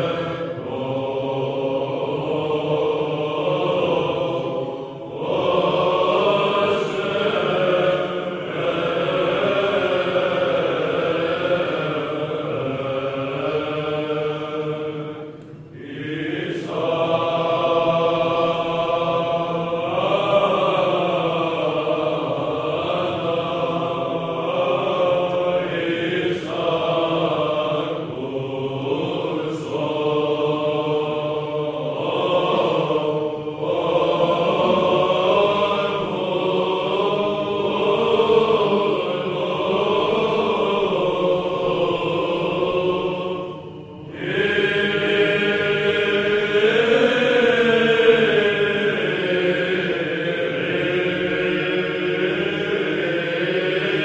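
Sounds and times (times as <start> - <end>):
choir chanting: 0.0 - 54.0.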